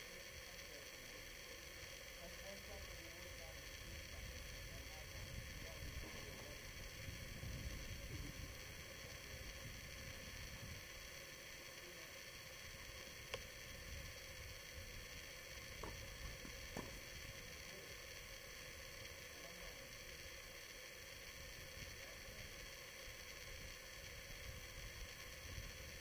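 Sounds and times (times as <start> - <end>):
camera microphone hiss: 0.0 - 26.0.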